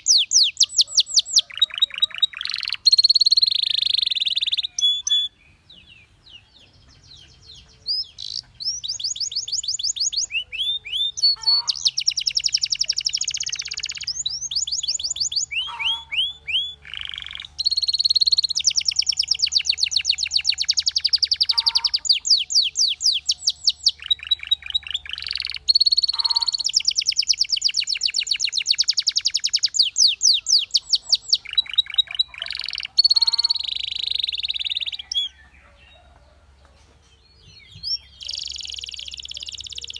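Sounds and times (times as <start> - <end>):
canary singing trills: 0.0 - 36.4, 37.1 - 39.9.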